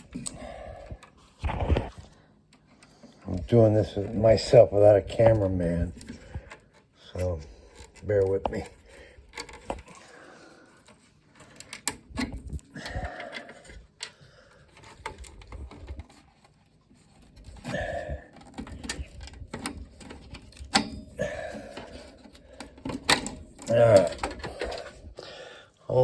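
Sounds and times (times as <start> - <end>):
cables rustling and scraping: 0.0 - 26.0.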